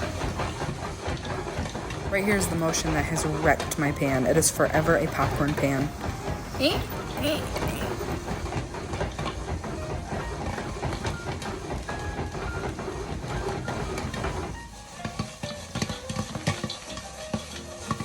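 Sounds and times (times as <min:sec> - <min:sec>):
pan scraping on burner grate: 0:00.0 - 0:18.0
popcorn kernels popping: 0:00.0 - 0:18.0.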